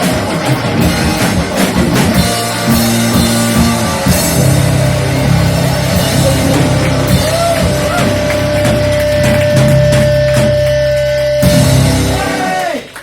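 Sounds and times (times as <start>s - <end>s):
drum kit hitting: 0.0s - 12.6s
rock band playing live: 0.0s - 13.0s
held low notes: 0.5s - 12.2s.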